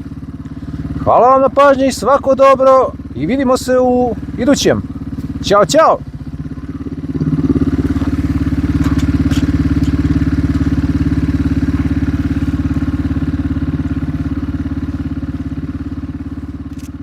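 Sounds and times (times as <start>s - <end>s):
moped engine running steadily: 0.0s - 17.0s.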